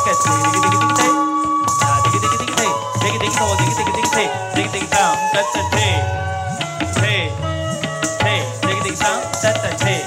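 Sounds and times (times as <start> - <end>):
tabla playing: 0.0 - 10.0.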